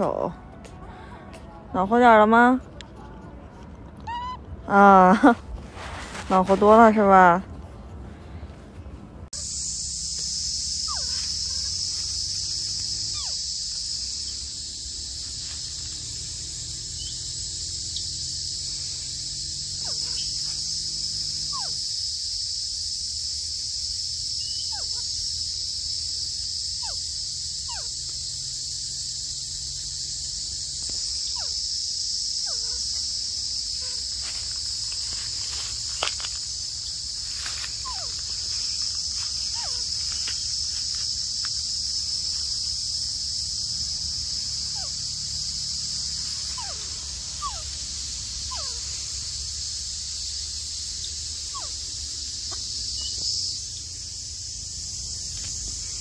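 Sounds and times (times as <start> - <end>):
insect chorus: 9.3 - 56.0.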